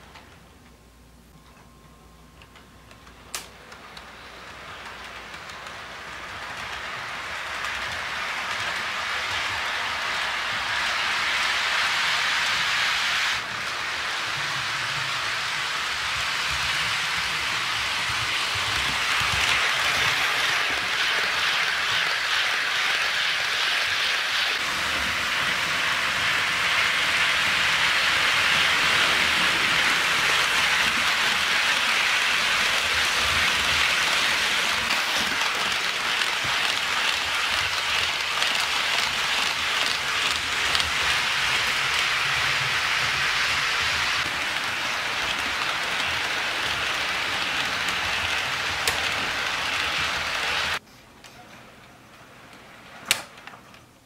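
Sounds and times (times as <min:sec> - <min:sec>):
model train wheels hissing on rails: 0:03.1 - 0:50.8.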